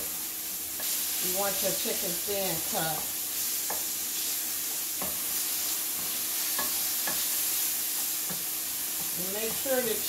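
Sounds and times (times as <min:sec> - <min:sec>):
chicken sizzling in frying pan: 0:00.0 - 0:10.0.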